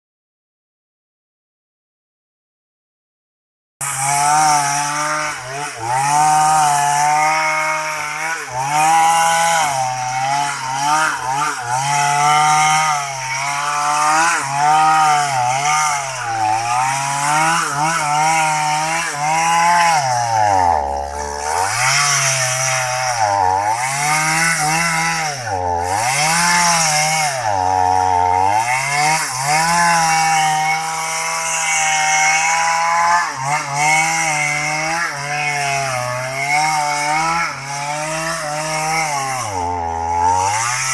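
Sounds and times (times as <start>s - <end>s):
chainsaw cutting into tree: 3.8s - 40.9s.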